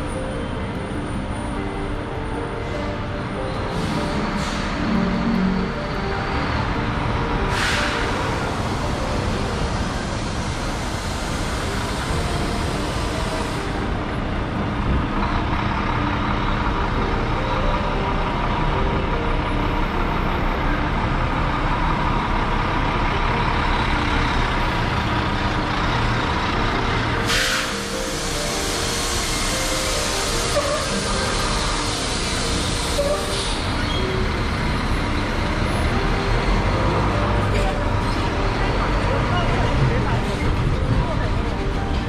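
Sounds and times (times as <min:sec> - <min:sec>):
city street traffic: 0:00.0 - 0:42.0
heavy vehicle engine running: 0:00.0 - 0:42.0.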